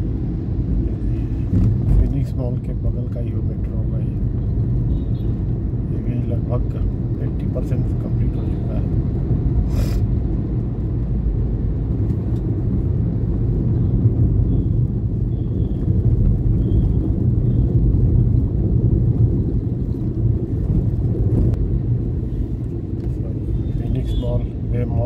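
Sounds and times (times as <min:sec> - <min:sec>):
road vehicle rumble: 0:00.0 - 0:25.0.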